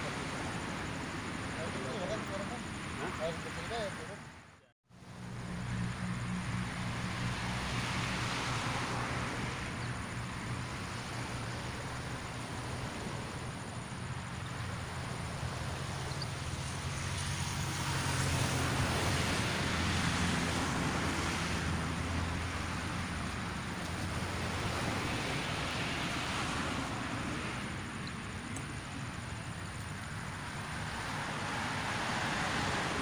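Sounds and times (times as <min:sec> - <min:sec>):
distant engine hum: 0:00.0 - 0:33.0.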